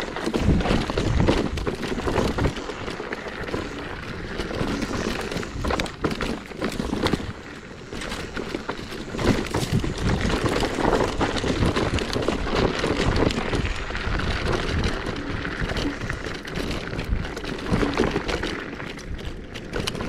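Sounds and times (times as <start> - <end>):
scooter tyres rolling over dirt: 0.0 - 20.0
wind noise on microphone: 0.0 - 20.0.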